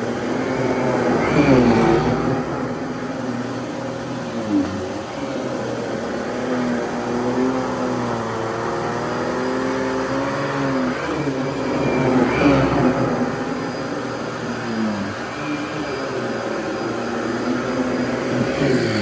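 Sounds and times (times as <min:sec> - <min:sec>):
vacuum cleaner motor hum: 0:00.0 - 0:19.0.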